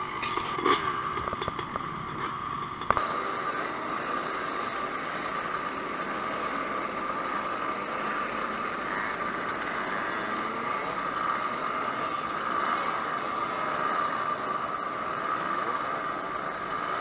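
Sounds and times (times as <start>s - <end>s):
constant whine: 0.0s - 17.0s
moped engines idling: 0.0s - 17.0s.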